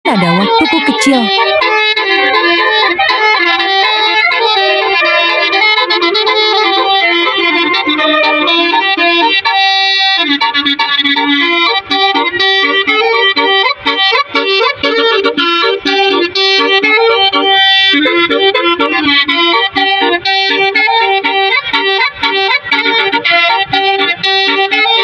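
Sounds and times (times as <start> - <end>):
fast bright melody: 0.0 - 25.0
held drone note: 0.1 - 25.0.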